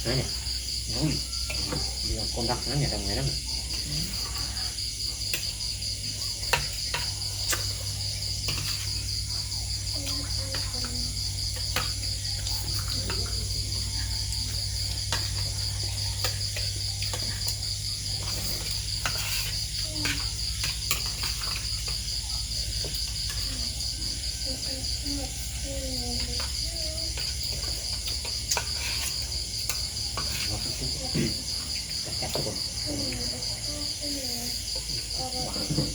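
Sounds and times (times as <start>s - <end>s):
crickets trilling: 0.0s - 35.9s.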